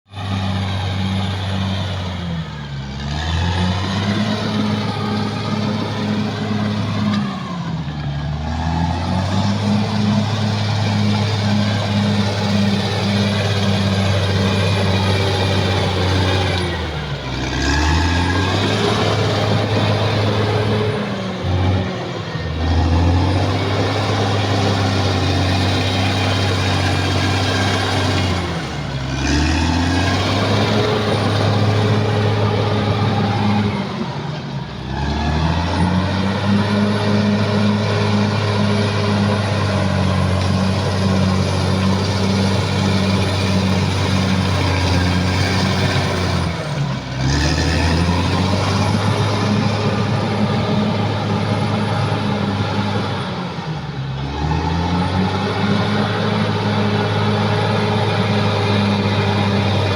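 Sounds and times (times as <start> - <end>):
bulldozer diesel engine running: 0.1 - 59.9.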